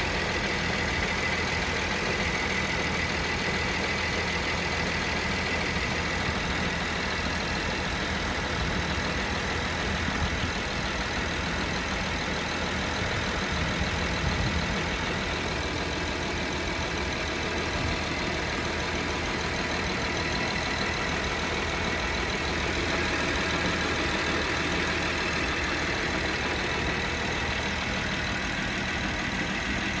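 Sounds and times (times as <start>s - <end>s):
car engine idling with knocking: 0.0s - 30.0s.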